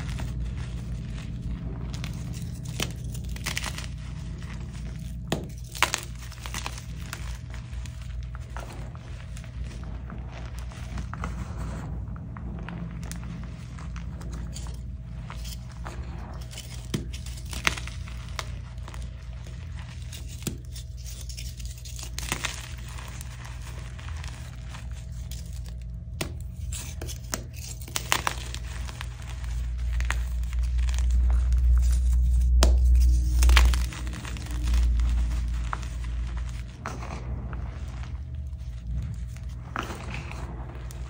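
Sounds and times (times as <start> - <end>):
deep rumble: 0.0 - 41.0
hands crushing chalk: 0.0 - 41.0.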